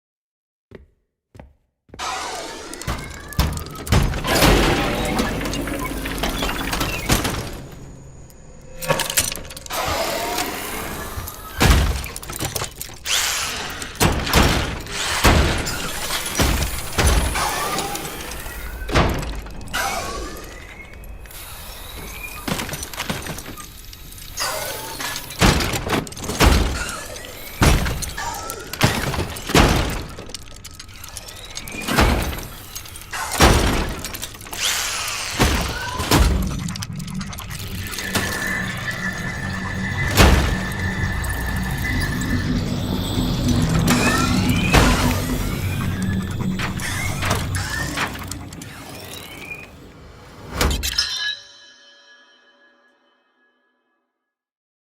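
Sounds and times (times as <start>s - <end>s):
mechanical whirring glides: 2.0s - 51.0s.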